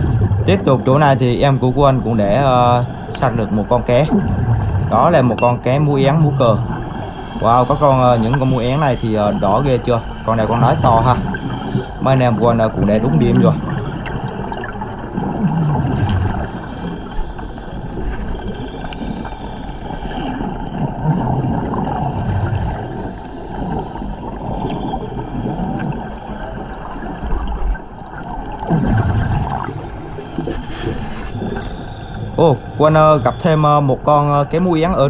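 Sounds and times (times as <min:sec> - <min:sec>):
underwater bubbling of exhaled air: 0:00.0 - 0:35.0.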